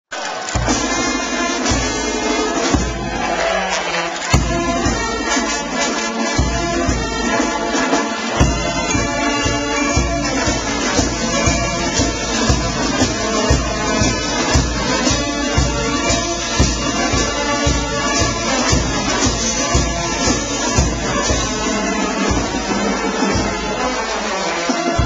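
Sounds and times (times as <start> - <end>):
marching band brass: 0.1 - 25.0.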